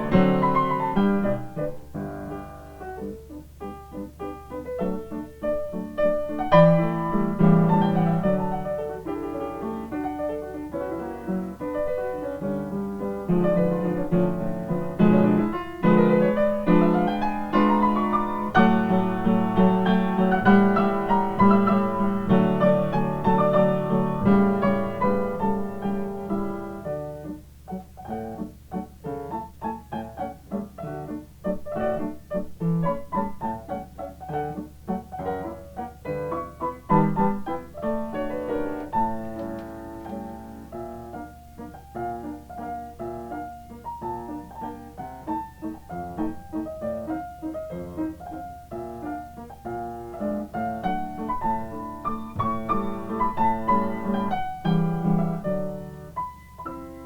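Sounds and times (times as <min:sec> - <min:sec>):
upright piano playing a waltz: 0:00.0 - 0:57.0.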